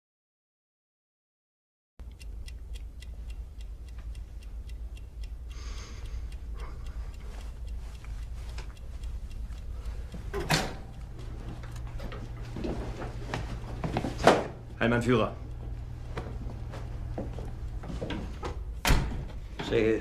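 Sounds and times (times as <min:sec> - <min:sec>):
low room hum: 0:02.0 - 0:20.0
wall clock ticking: 0:02.0 - 0:20.0.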